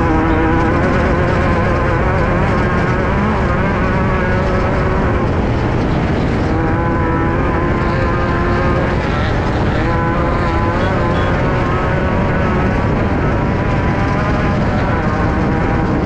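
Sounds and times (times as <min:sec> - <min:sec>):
heavy low rumble: 0:00.0 - 0:16.0
race car engine running hard: 0:00.0 - 0:16.0.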